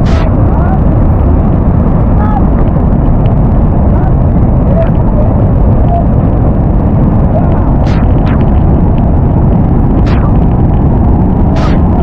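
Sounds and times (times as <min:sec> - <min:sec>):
roar of waterfall: 0:00.0 - 0:10.8, 0:11.4 - 0:12.0.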